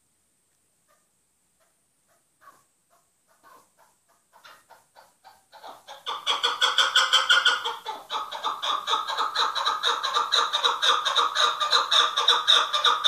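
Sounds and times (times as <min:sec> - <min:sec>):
partridge clucking call: 0:01.6 - 0:13.0.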